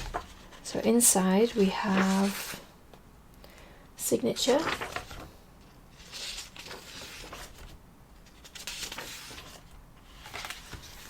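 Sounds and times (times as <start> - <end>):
book pages rustling: 0.0 - 2.6, 4.3 - 11.0.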